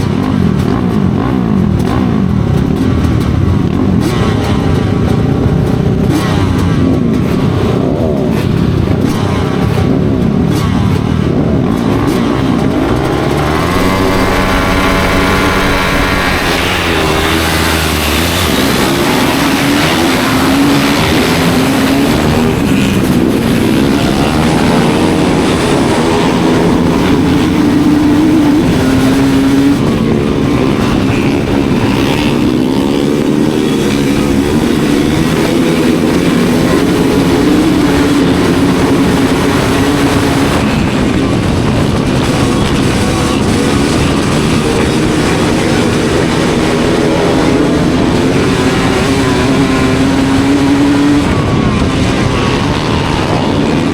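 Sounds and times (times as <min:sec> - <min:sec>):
racing motorcycle engines: 0:00.0 - 0:53.9.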